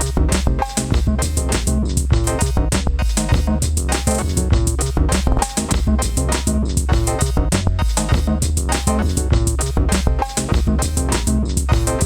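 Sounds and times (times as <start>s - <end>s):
deep synth bass line: 0.0s - 12.0s
drum machine beat: 0.0s - 12.0s.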